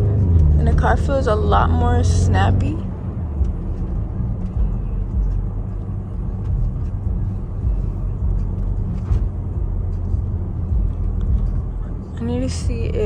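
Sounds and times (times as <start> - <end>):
car engine rumble inside cabin: 0.0 - 13.0
road noise: 0.0 - 13.0.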